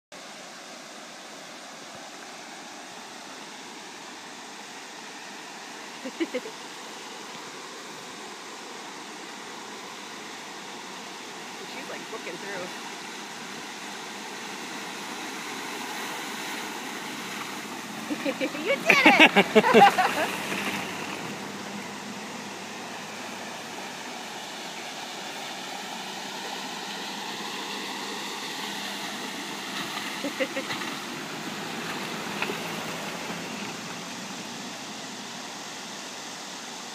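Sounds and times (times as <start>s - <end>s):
creek water rushing over concrete: 0.1s - 36.9s
car crossing water: 0.2s - 36.9s.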